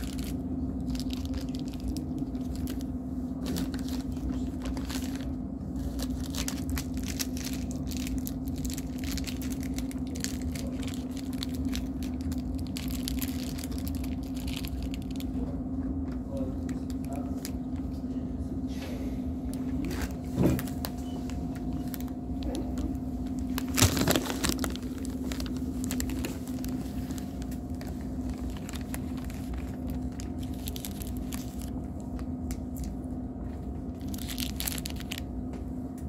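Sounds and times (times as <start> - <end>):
plastic packet crinkling: 0.0 - 15.3, 19.8 - 32.9, 33.8 - 35.3
low hum: 0.0 - 36.0.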